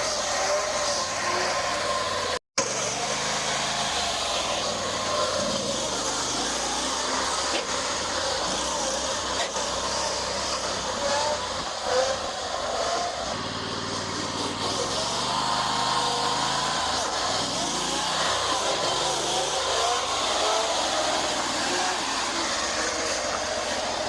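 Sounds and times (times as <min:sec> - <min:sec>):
truck engine running under throttle: 0:00.0 - 0:24.0.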